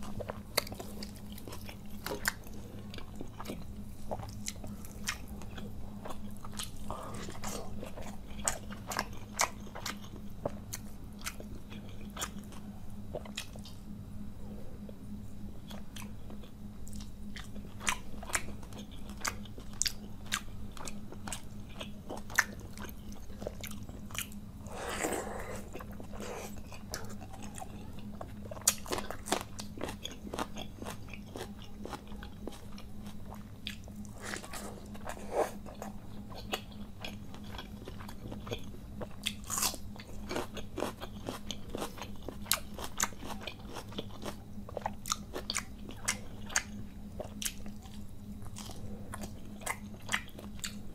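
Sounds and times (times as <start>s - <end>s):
chewing crunches and mouth clicks: 0.0s - 13.9s, 15.6s - 50.9s
constant low hum: 0.0s - 50.9s.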